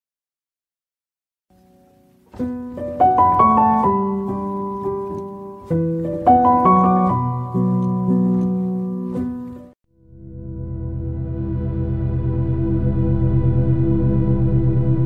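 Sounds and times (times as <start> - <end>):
slow piano music: 1.5 - 15.0.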